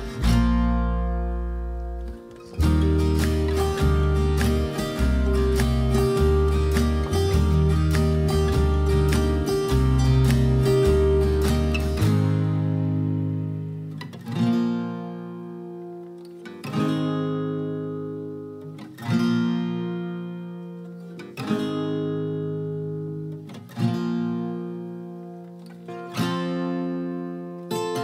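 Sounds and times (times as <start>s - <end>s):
acoustic guitar strummed chords: 0.0s - 28.0s.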